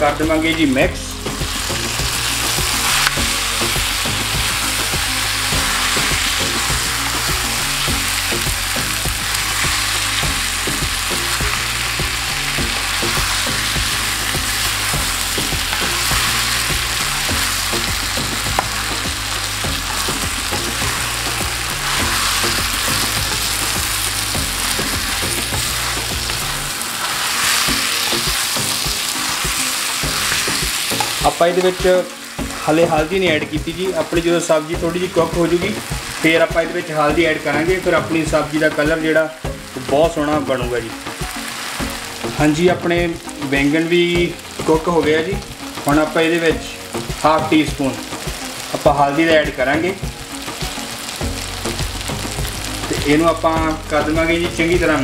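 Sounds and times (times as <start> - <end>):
vegetables sizzling in a pan: 0.0 - 55.0.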